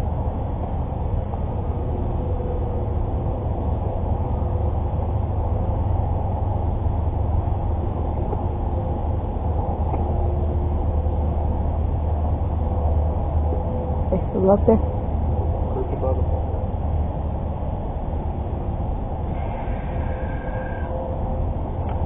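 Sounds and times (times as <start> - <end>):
boat motor humming: 0.0 - 22.0.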